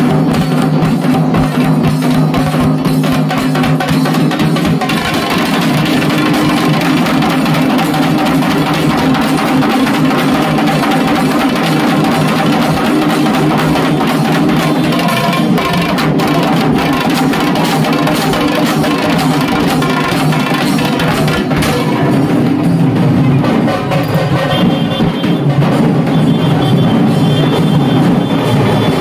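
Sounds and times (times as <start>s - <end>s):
barrel drums beaten with sticks: 0.0s - 29.0s.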